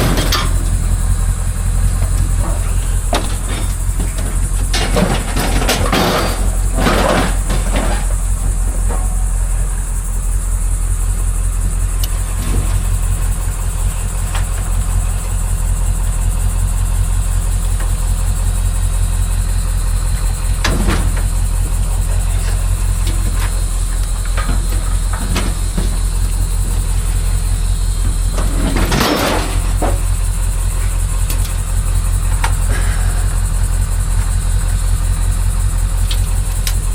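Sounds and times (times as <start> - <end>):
rattling bursts: 0.0 - 36.9
road noise: 0.0 - 36.9
vehicle engine drone: 0.0 - 36.9.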